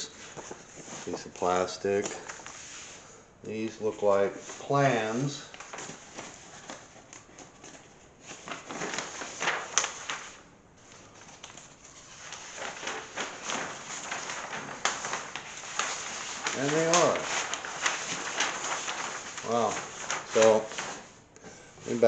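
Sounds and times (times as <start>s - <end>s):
paper sheets rustling: 0.0s - 22.0s.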